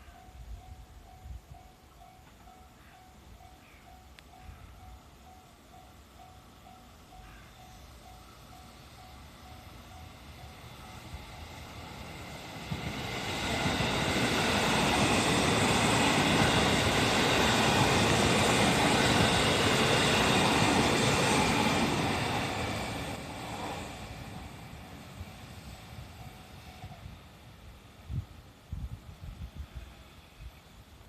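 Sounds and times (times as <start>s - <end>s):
electric train running: 5.2s - 31.0s.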